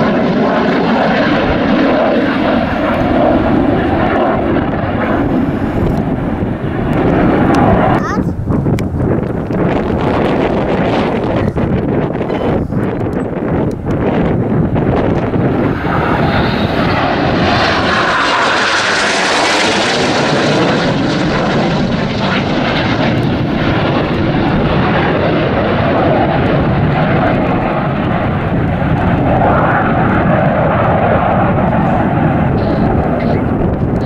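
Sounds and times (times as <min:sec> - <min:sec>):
jet aircraft passing: 0:00.0 - 0:34.0.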